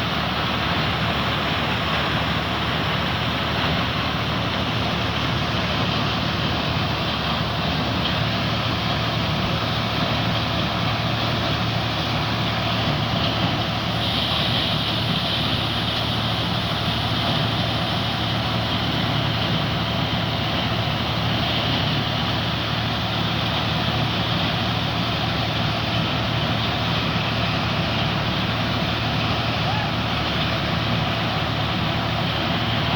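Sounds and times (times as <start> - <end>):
maize sheller mechanical noise: 0.0 - 32.9
tractor engine hum: 0.0 - 32.9.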